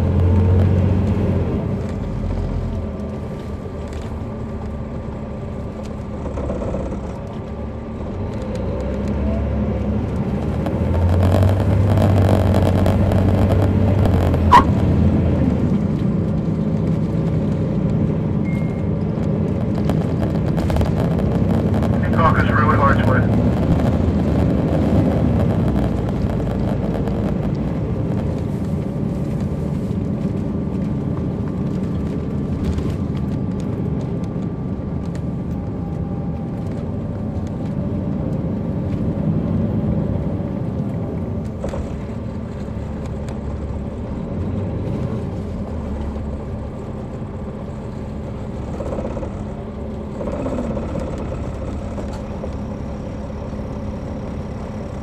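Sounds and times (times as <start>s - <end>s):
bus diesel engine drone: 0.0s - 55.0s
road noise: 0.0s - 55.0s.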